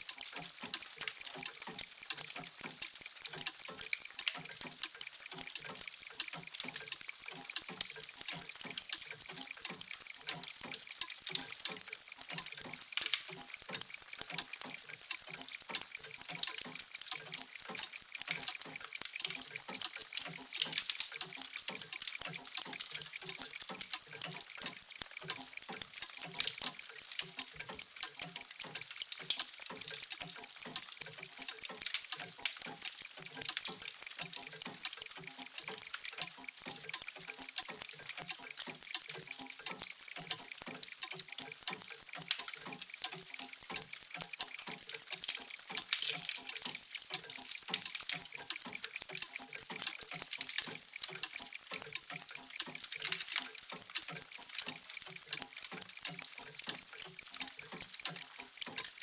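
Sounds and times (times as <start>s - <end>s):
mechanical clocks ticking: 0.0s - 59.0s.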